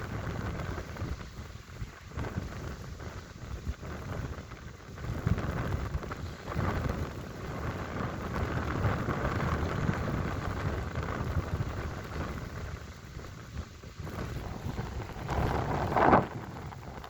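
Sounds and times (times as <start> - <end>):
waves breaking on stony shore: 0.0 - 17.0
wind rumbling on microphone: 0.0 - 17.0.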